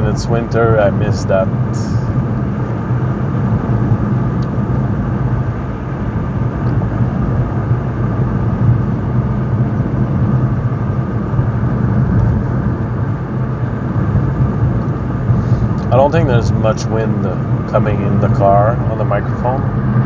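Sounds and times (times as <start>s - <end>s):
tyre and engine rumble: 0.0s - 20.0s.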